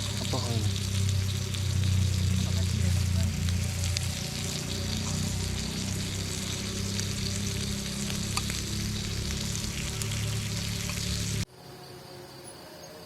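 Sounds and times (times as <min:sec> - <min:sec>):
camp stove low hum: 0:00.0 - 0:11.5
meat sizzling in a pan: 0:00.0 - 0:11.5.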